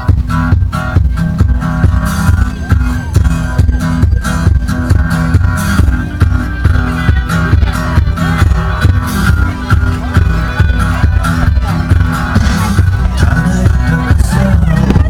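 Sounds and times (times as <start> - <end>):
music with drums bass and guitar: 0.0 - 15.0.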